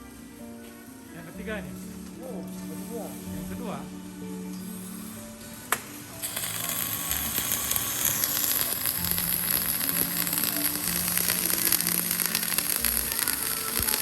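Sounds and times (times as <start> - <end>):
background music: 0.0 - 14.0
welding arc crackling: 1.2 - 3.9, 4.5 - 14.0.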